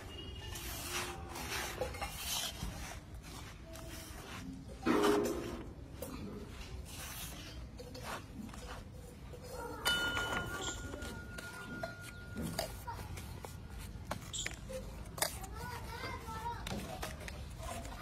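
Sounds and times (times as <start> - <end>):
hands rustling powder in steel basin: 0.0 - 18.0.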